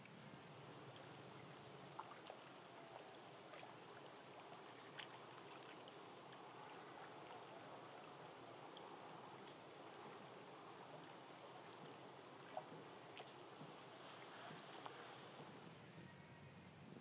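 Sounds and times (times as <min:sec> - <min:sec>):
light rain on leaves and water: 0:00.0 - 0:16.3.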